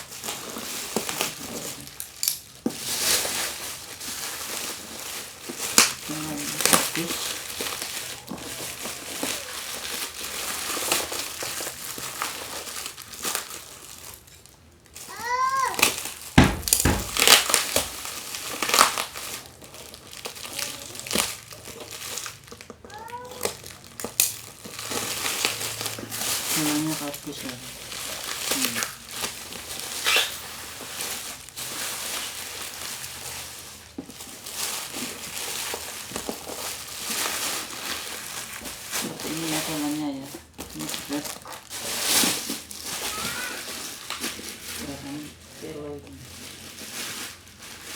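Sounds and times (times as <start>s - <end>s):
plastic packaging crinkling: 0.0s - 47.9s.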